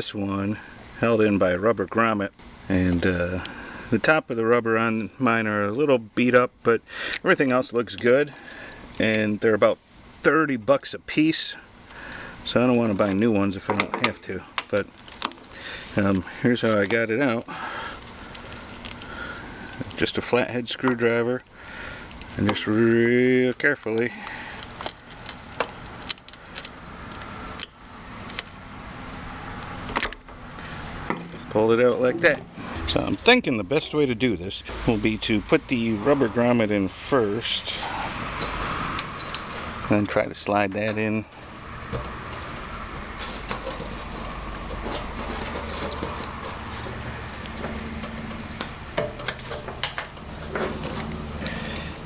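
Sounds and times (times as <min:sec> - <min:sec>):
cricket chirping: 0:00.2 - 0:04.4, 0:05.3 - 0:13.5, 0:14.3 - 0:40.3, 0:41.1 - 0:52.0.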